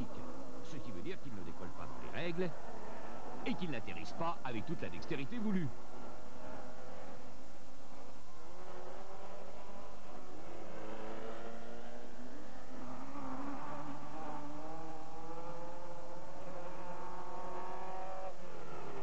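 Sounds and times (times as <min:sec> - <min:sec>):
racing buggy engines revving: 0:00.0 - 0:19.0.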